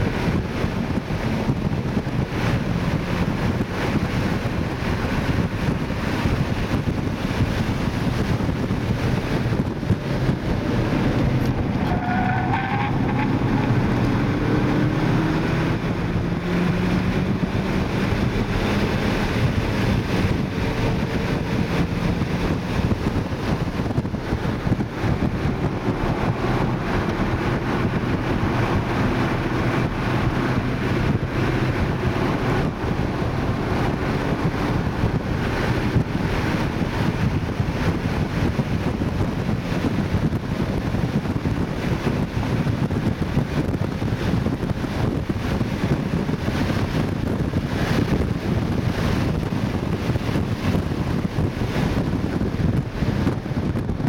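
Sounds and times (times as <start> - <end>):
car engine under load: 0.0 - 54.0
wind and road noise: 0.0 - 54.0.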